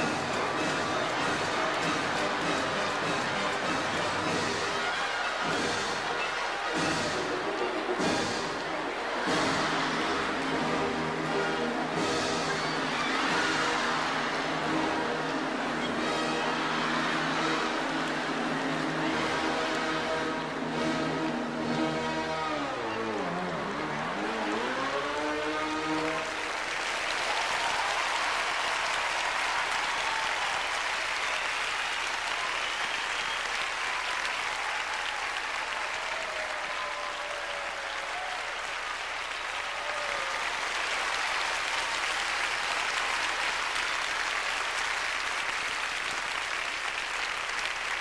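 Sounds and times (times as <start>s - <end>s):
audience applauding: 0.0s - 48.0s.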